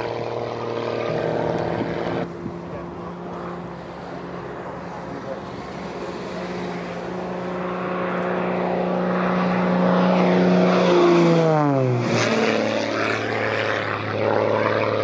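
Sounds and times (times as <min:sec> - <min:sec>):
propeller plane passing: 0:00.0 - 0:15.0.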